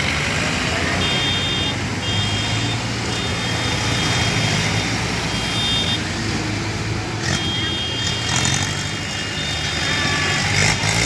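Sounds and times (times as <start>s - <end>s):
tractor engines rumbling: 0.0s - 11.0s.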